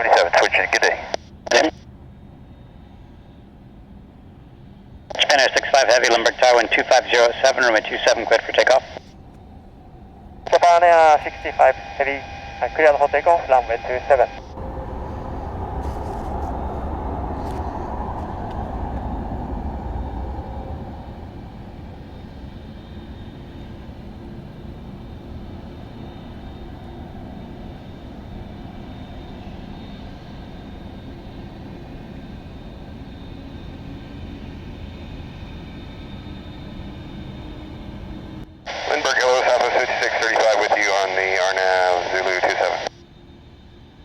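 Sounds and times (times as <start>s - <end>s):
jet engines at takeoff power: 0.0s - 44.0s.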